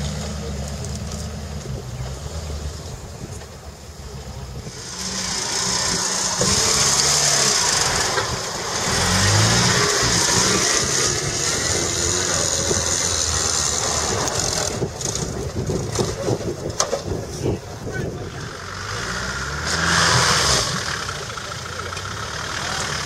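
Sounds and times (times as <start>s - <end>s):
vehicle engine revving under load: 0.0s - 16.6s, 18.1s - 23.0s.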